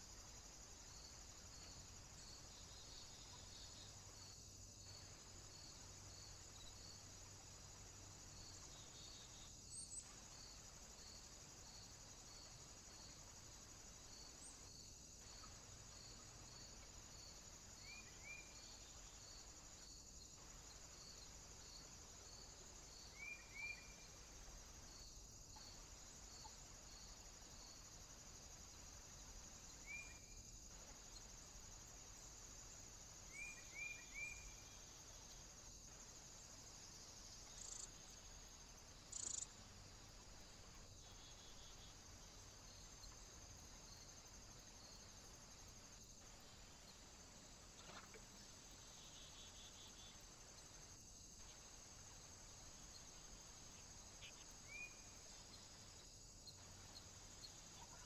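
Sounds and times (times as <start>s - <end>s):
insect chirping: 0.0s - 58.0s
steady high hiss: 0.0s - 58.0s.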